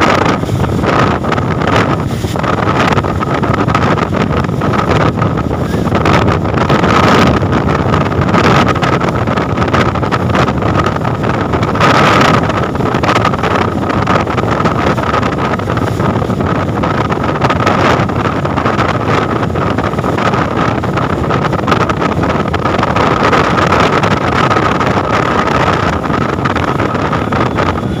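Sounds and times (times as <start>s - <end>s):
speedboat engines running: 0.0s - 28.0s
steady high whine: 0.0s - 28.0s
wind buffeting microphone: 0.0s - 28.0s.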